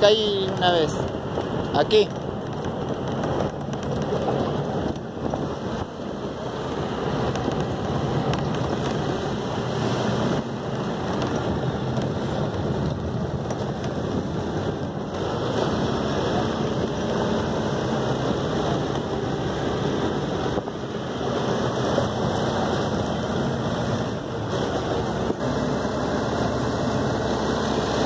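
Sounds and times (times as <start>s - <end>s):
bus engine rumble: 0.0s - 28.0s
road noise on gravel: 0.0s - 28.0s
wind buffeting microphone: 0.0s - 28.0s.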